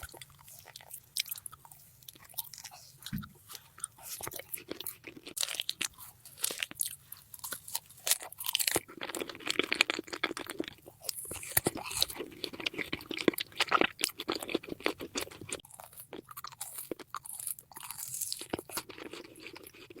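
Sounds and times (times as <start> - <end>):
crunching and wet chewing: 0.0 - 20.0.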